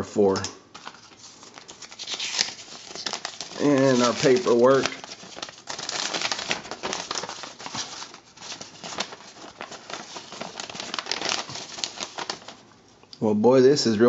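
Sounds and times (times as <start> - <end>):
paper crinkling and rustling: 0.2 - 12.7.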